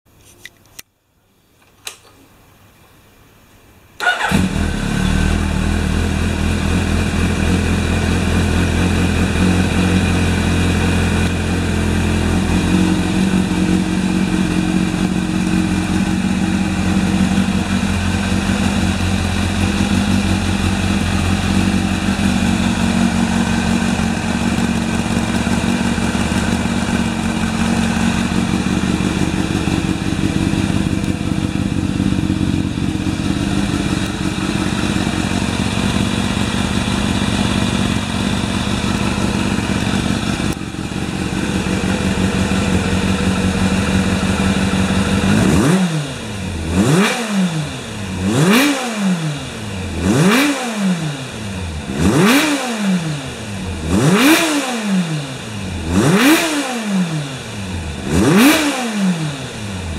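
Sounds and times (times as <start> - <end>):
motorcycle engine starting and running: 4.0 - 59.9.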